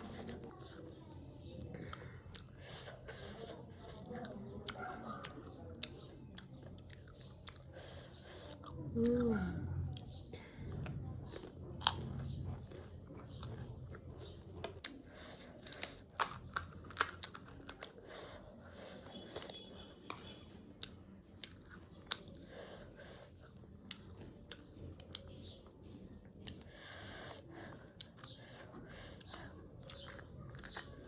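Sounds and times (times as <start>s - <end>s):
person chewing crunchy snack: 1.8s - 9.3s, 10.8s - 31.0s.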